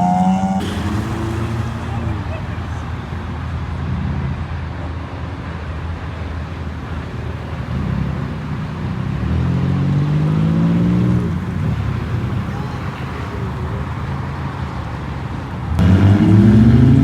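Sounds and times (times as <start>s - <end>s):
car accelerating hard: 0.0s - 4.9s, 5.8s - 17.0s
car engines running: 0.0s - 17.0s.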